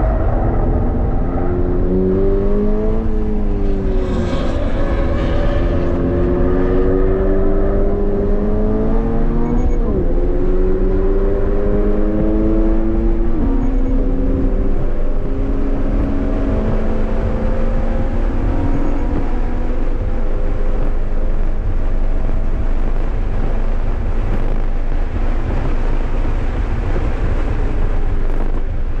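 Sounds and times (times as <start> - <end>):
car engine at full throttle: 0.0 - 29.0
wind and road noise: 0.0 - 29.0.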